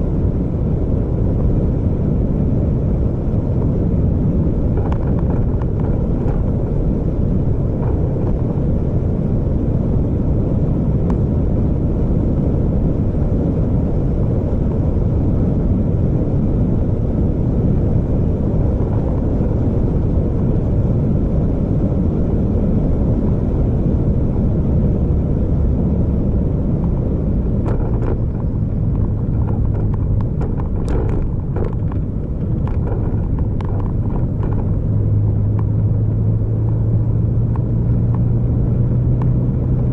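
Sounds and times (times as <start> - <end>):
engine and road noise rumble: 0.0 - 39.9.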